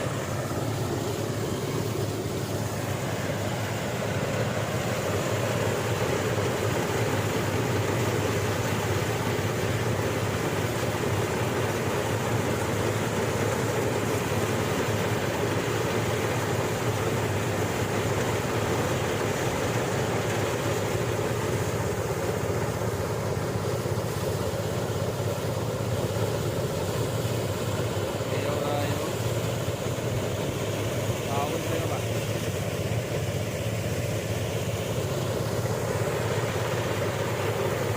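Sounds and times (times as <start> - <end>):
threshing machine engine humming: 0.0 - 37.9.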